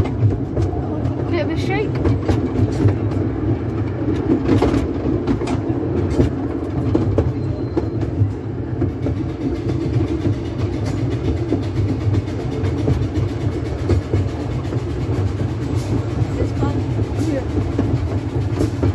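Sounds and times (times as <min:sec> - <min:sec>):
rail clicks: 0:00.0 - 0:18.9
train wheels rumbling on rails: 0:00.0 - 0:18.9.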